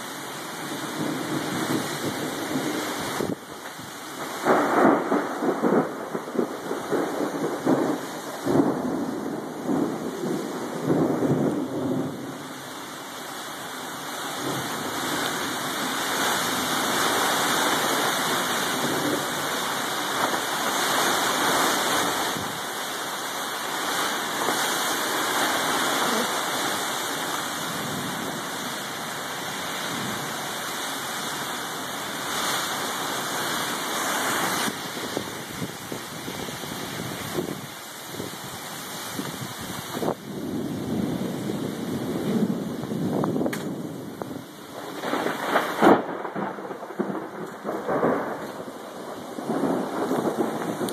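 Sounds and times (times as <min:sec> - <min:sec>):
heavy rain: 0:00.0 - 0:50.9
strong wind: 0:00.0 - 0:50.9.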